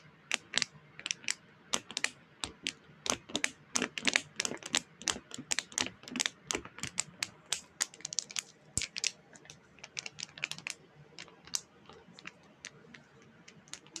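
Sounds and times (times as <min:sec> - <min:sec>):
rapid irregular clicking: 0:00.0 - 0:14.0.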